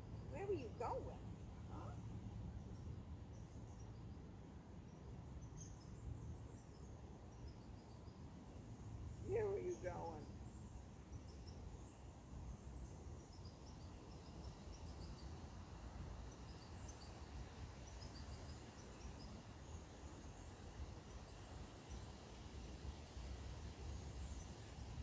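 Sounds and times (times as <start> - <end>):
faint bird chirps: 0.0 - 25.0.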